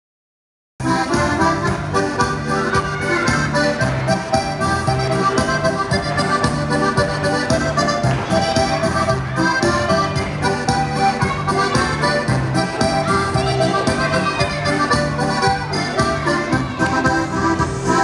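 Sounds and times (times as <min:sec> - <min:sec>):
button accordion playing a tune: 0:00.8 - 0:18.0.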